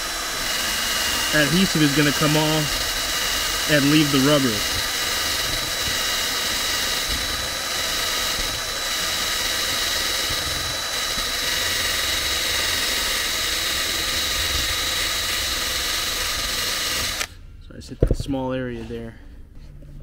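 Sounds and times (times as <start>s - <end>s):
cordless drill motor whine: 0.0s - 17.4s.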